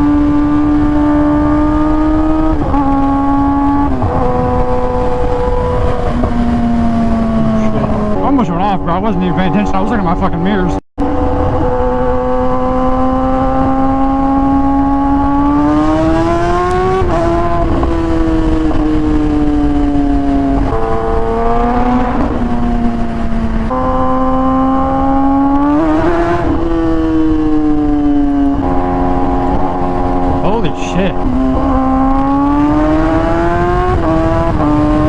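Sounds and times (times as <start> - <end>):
motorcycle engine revving: 0.0 - 35.0
wind rush: 0.0 - 35.0.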